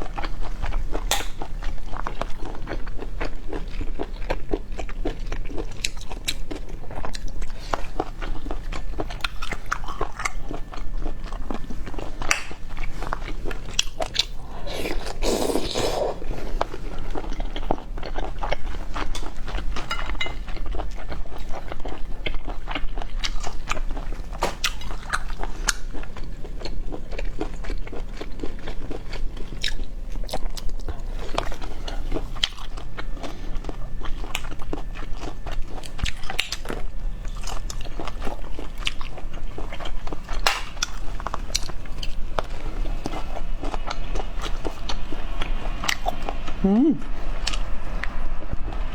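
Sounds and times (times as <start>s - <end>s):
person chewing snails: 0.0s - 48.9s.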